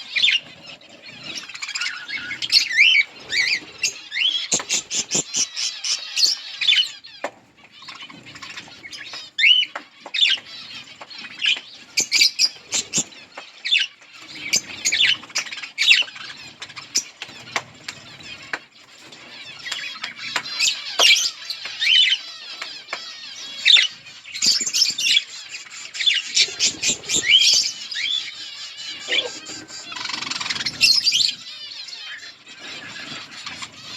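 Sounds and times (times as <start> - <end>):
budgerigars chirping: 0.0 - 33.9
wings fluttering: 0.0 - 33.9.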